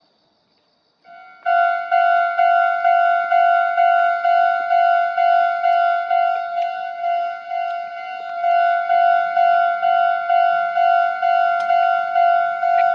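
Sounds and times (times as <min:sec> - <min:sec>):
level crossing warning bell: 0:01.1 - 0:12.9.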